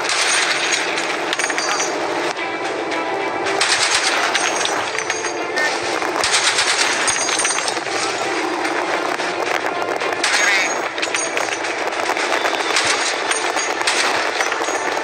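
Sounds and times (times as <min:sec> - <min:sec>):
machine gun firing bursts: 0:00.0 - 0:02.0, 0:03.6 - 0:15.0.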